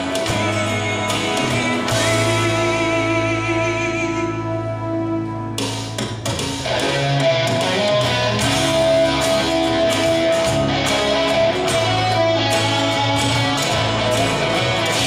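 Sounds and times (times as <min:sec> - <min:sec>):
instrumental rock guitar and bass: 0:00.0 - 0:15.0.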